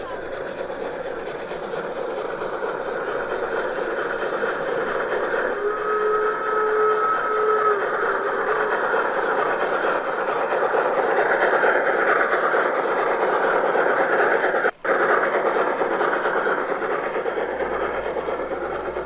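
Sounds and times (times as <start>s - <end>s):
model steam train running on track: 0.0s - 19.0s.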